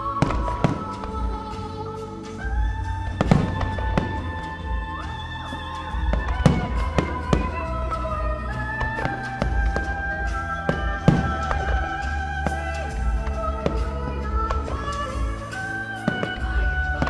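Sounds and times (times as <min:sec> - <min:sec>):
fireworks bursting: 0:00.0 - 0:17.0
music over loudspeakers: 0:00.0 - 0:17.0.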